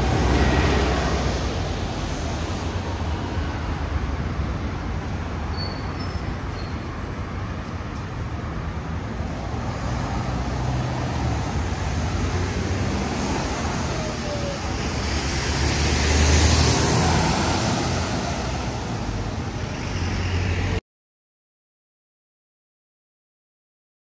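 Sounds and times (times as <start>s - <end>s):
bus driving past: 0.0s - 20.8s
cars driving past: 0.0s - 20.8s.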